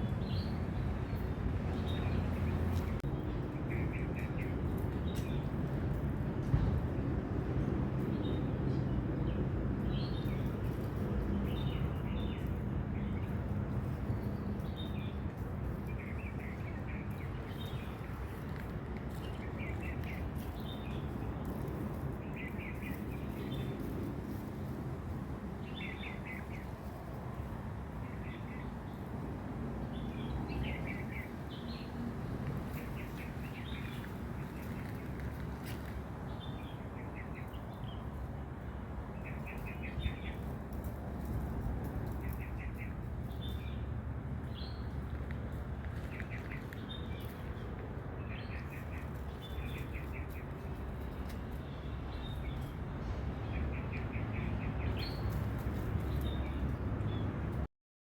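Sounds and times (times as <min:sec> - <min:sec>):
small birds chirping: 0:07.6 - 0:57.6.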